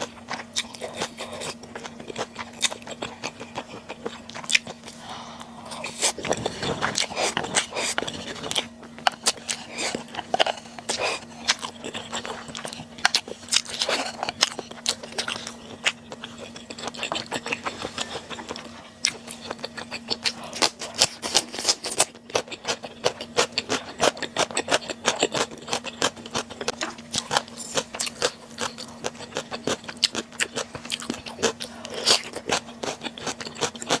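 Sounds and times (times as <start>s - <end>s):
wet chewing and biting: 0.0s - 5.0s, 5.7s - 34.0s
faint steady hum: 0.0s - 34.0s.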